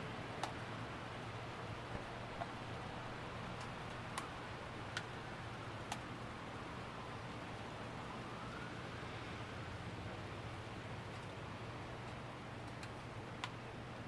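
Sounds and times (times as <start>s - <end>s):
faint rain hiss: 0.0s - 14.0s.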